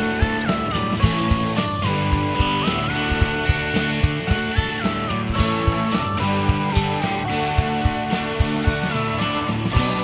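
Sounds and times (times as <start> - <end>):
guitar-led instrumental music: 0.0 - 10.0
steady drum beat: 0.0 - 10.0.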